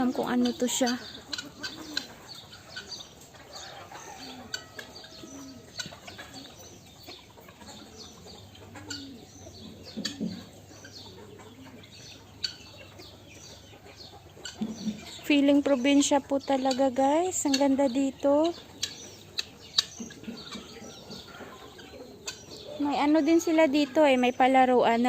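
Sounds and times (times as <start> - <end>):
birds chirping: 0.0 - 25.0
chickens clucking: 0.0 - 25.0
doves cooing: 0.0 - 25.0.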